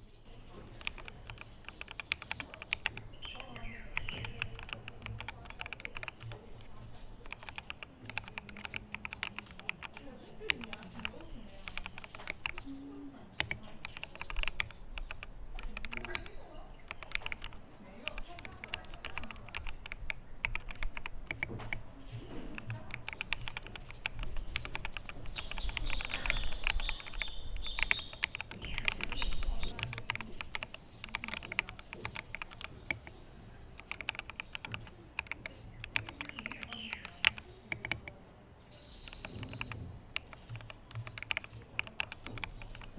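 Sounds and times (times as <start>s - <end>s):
mechanical keyboard typing: 0.6s - 12.8s, 13.4s - 38.2s, 39.0s - 42.9s.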